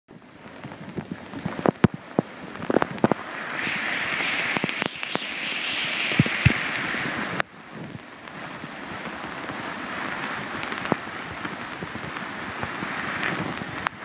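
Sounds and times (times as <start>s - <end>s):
water rushing: 0.1s - 14.0s.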